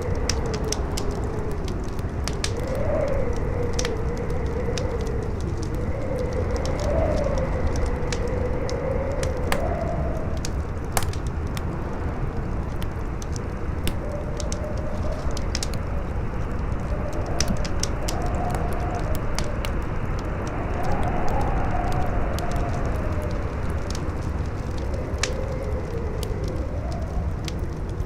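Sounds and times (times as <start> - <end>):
campfire crackling and popping: 0.0 - 28.0
howling wind: 0.0 - 28.0.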